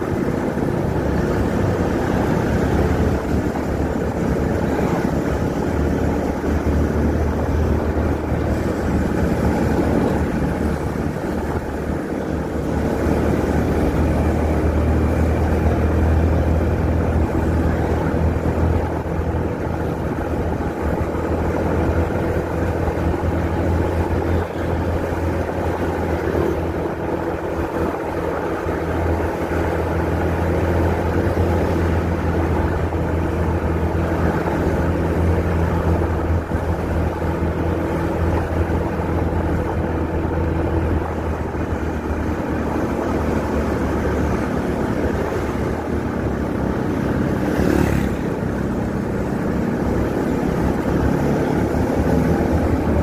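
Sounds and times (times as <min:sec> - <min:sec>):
motorcycle engine cruising: 0:00.0 - 0:53.0
road and wind noise: 0:00.0 - 0:53.0
rush of noise: 0:00.0 - 0:53.0.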